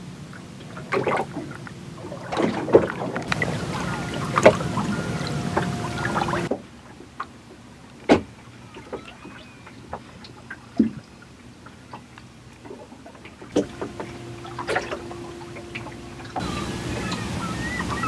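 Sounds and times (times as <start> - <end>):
calm sea ambience: 0.0 - 18.0.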